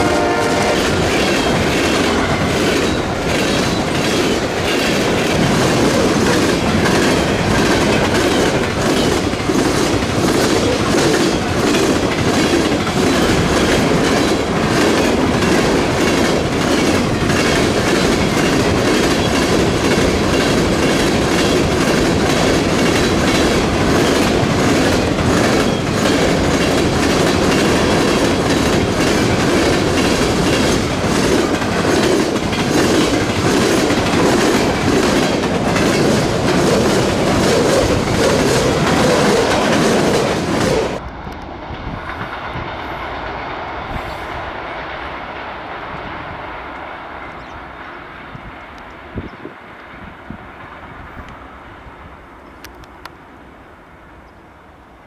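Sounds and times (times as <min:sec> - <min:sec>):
freight train wheels clicking: 0:00.0 - 0:50.0.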